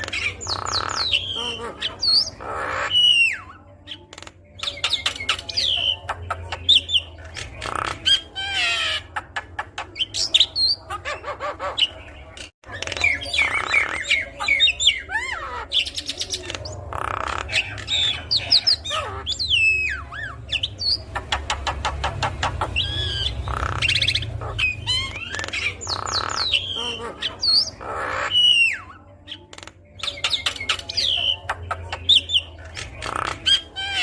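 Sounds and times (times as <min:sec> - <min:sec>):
myna bird singing: 0:00.0 - 0:34.0.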